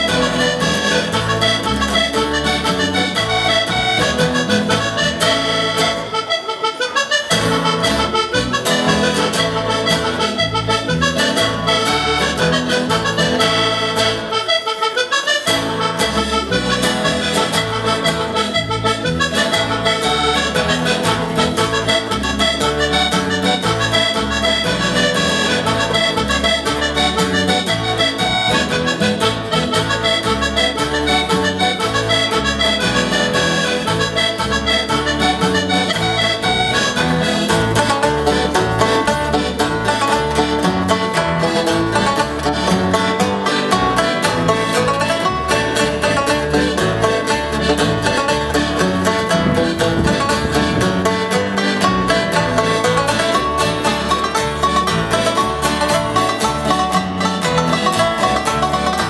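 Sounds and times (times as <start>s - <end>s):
accordion playing: 0.0s - 59.0s
acoustic guitar strumming: 0.0s - 59.0s.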